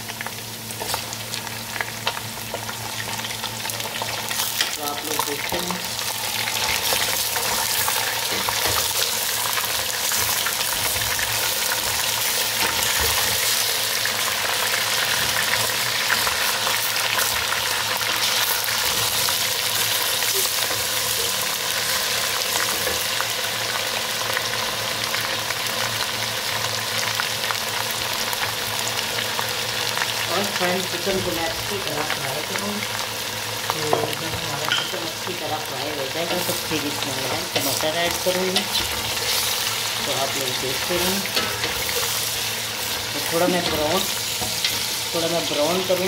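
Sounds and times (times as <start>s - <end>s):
chicken sizzling in hot fat: 0.0s - 46.0s.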